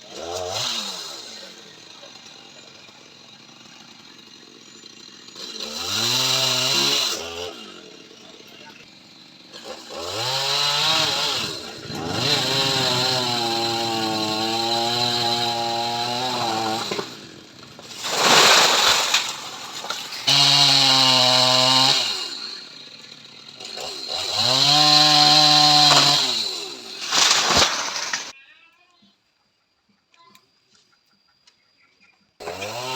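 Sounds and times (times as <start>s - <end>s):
chainsaw revving: 0.0s - 28.4s, 32.4s - 32.9s.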